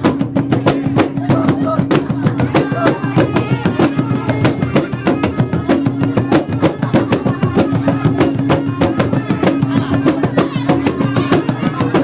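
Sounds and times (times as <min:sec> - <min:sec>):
fast even drumming: 0:00.0 - 0:12.0.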